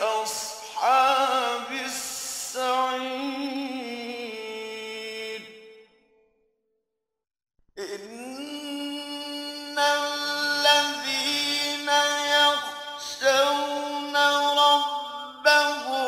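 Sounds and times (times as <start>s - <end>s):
man chanting melodically: 0.0s - 5.7s, 7.8s - 16.0s.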